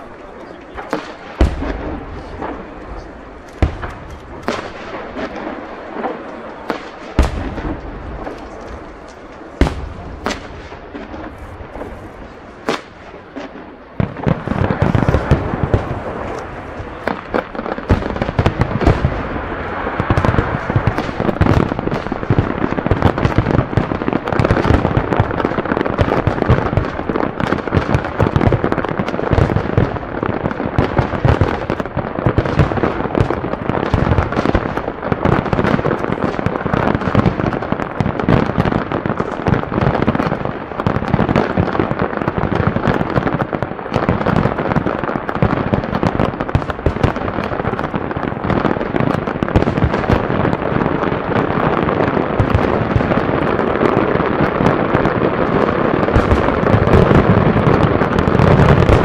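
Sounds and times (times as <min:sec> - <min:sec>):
fireworks crackling: 0:00.0 - 0:59.0.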